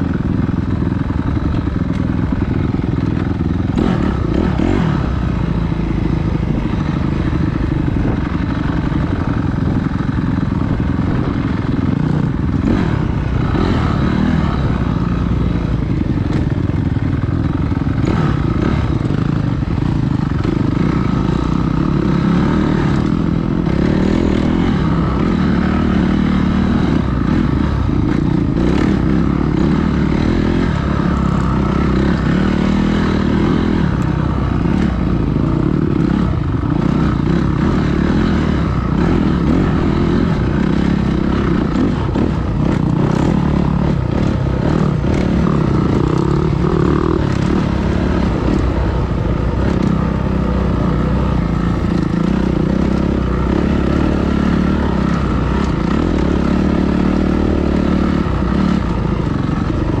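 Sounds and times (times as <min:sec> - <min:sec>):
dirt bike engine running: 0:00.0 - 1:00.0.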